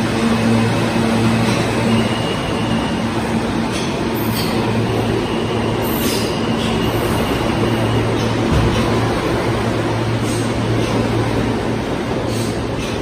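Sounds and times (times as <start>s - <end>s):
subway train rumbling past: 0.0s - 13.0s.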